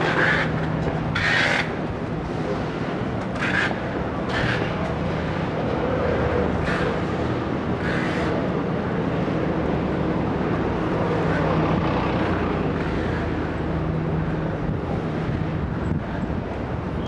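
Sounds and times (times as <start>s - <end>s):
traffic noise: 0.0s - 17.0s
vehicle engines running: 0.0s - 17.0s.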